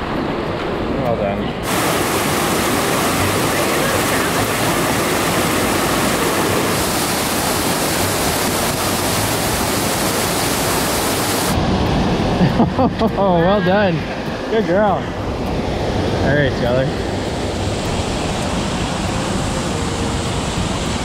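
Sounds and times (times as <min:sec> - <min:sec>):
river rushing over boulders: 0:01.6 - 0:12.4, 0:13.4 - 0:21.0.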